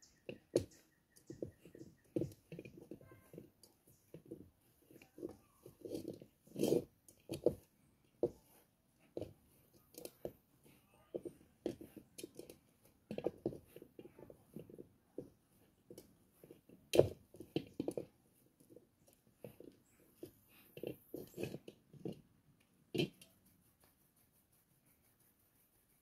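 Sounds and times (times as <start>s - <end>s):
dough kneaded by hand: 0.0s - 26.0s.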